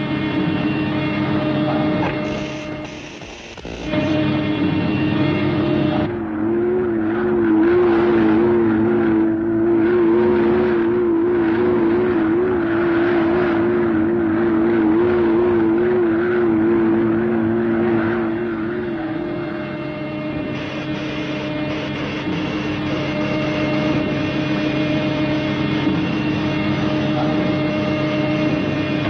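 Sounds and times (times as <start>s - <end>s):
warbling whine: 0.0s - 29.0s
whirring robot engine drone: 0.0s - 29.0s.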